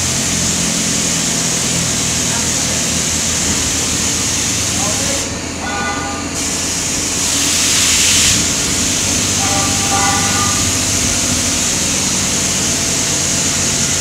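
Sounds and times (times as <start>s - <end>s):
loud broad hiss: 0.0s - 14.0s
machinery low hum: 0.0s - 14.0s.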